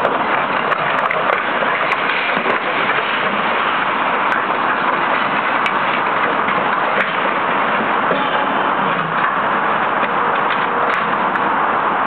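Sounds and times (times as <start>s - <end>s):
excavator engine and machinery: 0.0s - 12.0s.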